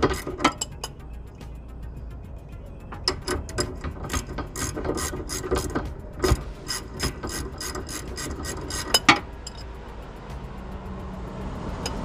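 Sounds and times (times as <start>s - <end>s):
ratchet wrench clicking: 0.0s - 1.5s, 2.9s - 10.7s, 11.5s - 12.0s.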